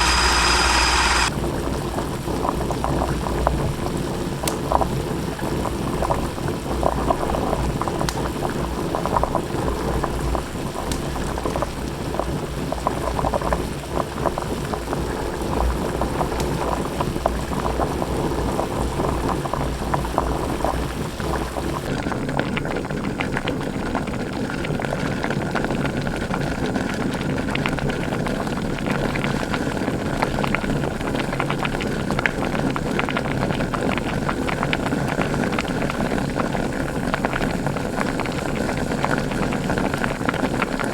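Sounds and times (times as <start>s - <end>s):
pot boiling with bubbling: 0.0s - 40.9s.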